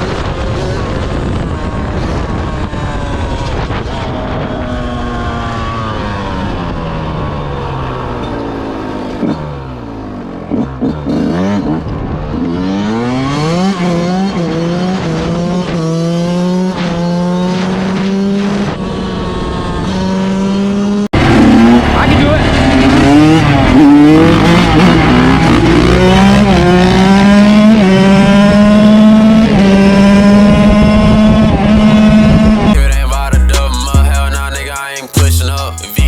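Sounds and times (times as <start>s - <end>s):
dirt bike engine revving: 4.6s - 36.0s.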